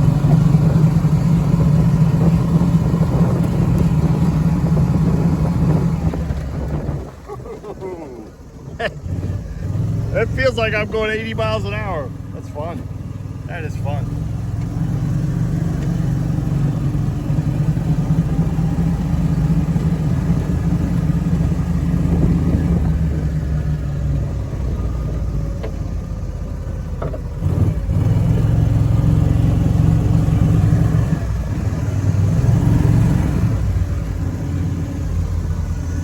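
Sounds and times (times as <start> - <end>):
mower engine under load: 0.0 - 36.0.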